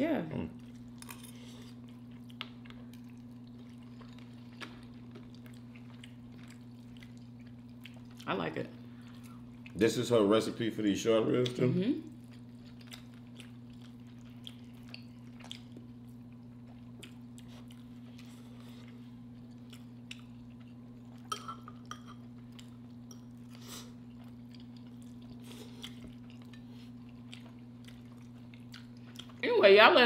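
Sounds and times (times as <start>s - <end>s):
low electrical hum: 0.0s - 30.0s
person chewing: 0.6s - 8.2s, 8.9s - 9.8s, 11.3s - 29.4s.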